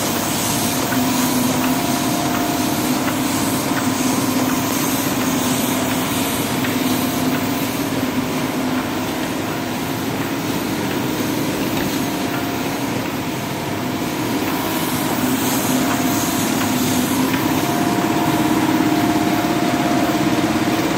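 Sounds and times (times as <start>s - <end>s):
printing press running: 0.0s - 20.9s.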